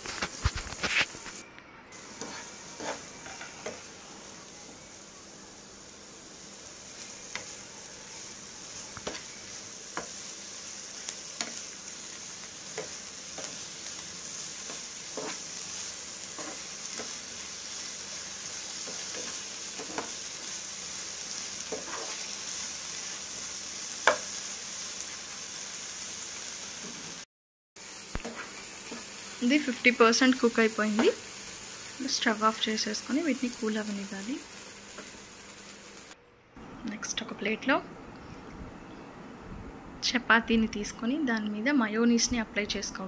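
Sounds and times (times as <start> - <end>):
vegetables sizzling in a frying pan: 0.0 - 36.2.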